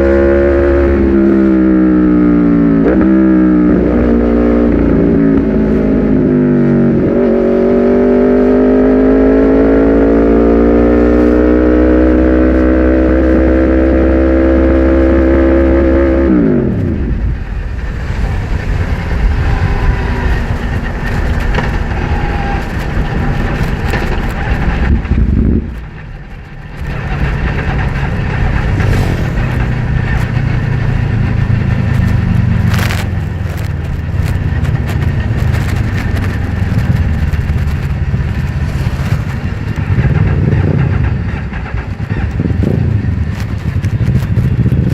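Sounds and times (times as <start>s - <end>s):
motorcycle engine revving: 0.0s - 44.9s
wind and road noise: 0.0s - 44.9s.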